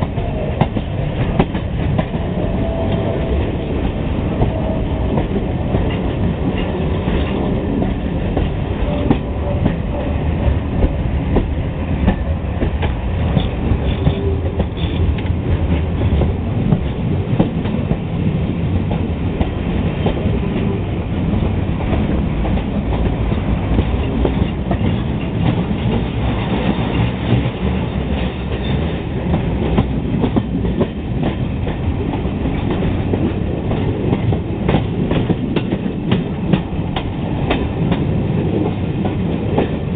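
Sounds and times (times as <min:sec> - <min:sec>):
train wheels on rail: 0:00.0 - 0:39.9.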